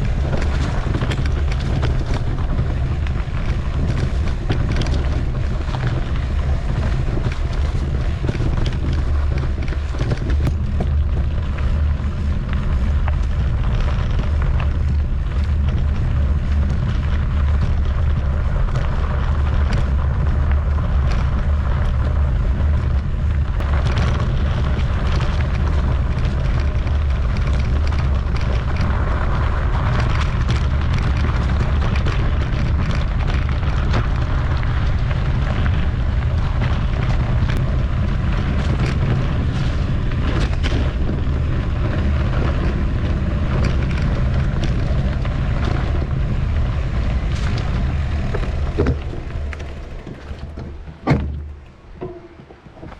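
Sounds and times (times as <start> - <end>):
bike rattling and knocking: 0.0 - 52.9
tyres rolling over rough trail: 0.0 - 52.9
wind buffeting microphone: 0.0 - 52.9.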